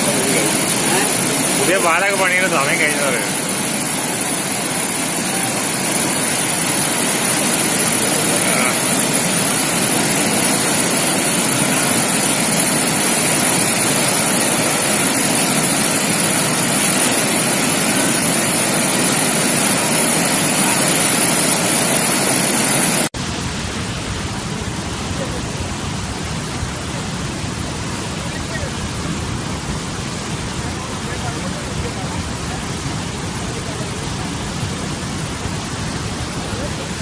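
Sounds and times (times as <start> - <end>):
rushing river floodwater: 0.0 - 37.0.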